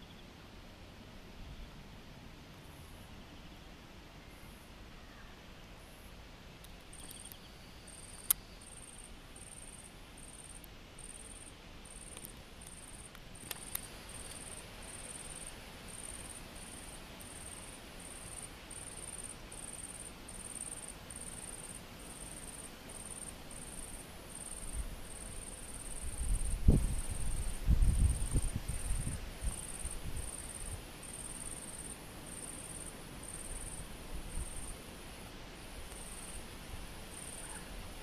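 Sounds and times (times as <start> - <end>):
insect chirping: 0.0 - 0.4, 2.6 - 38.0.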